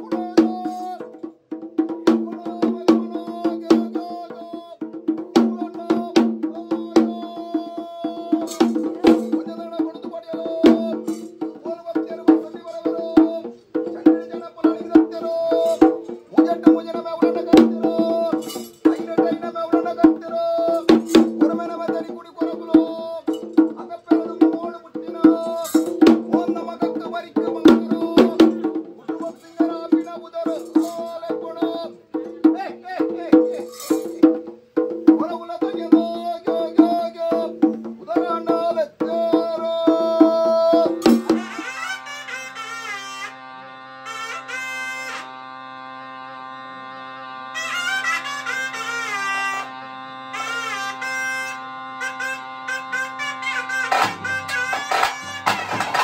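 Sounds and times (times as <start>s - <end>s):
rapid drum strokes: 0.0s - 42.6s, 53.0s - 56.0s.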